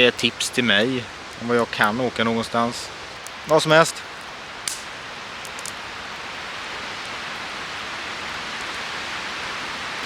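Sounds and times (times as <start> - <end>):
campfire hissing: 0.0 - 10.0
fire crackles: 0.0 - 10.0.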